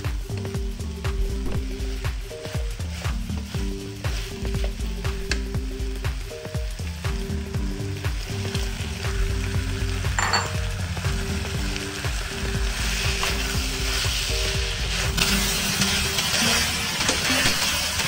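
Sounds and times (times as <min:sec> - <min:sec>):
food sizzling in a wok: 0:00.0 - 0:18.0
soft background music: 0:00.0 - 0:18.0.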